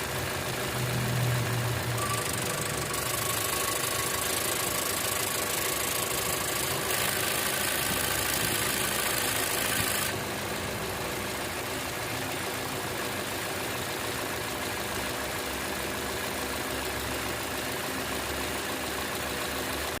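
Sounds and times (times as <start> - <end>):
car engine idling: 0.0 - 20.0
odd engine noise: 0.0 - 20.0.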